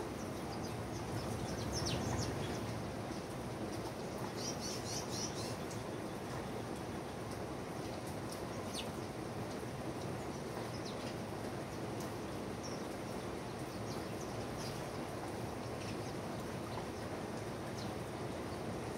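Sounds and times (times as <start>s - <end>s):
outdoor background noise: 0.0s - 18.9s
small birds chirping: 0.1s - 6.8s, 7.8s - 9.2s, 10.0s - 18.9s.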